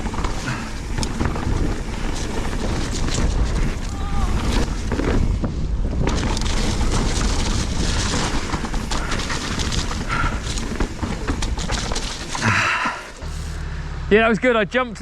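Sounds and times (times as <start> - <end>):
wind buffeting microphone: 0.0 - 13.3
mountain bike rattling and knocking: 0.0 - 13.4.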